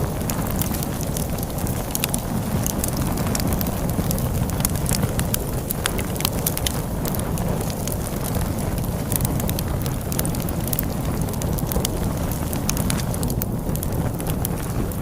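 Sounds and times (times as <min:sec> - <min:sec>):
storm wind rushing: 0:00.0 - 0:15.0
wood fire crackling and popping: 0:00.0 - 0:15.0.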